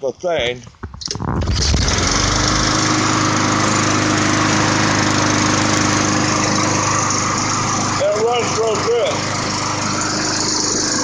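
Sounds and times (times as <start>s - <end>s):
lawnmower engine running: 0.8s - 11.0s.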